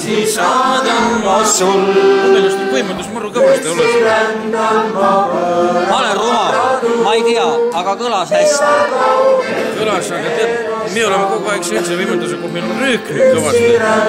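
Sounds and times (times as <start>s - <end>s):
group singing together: 0.0s - 14.0s.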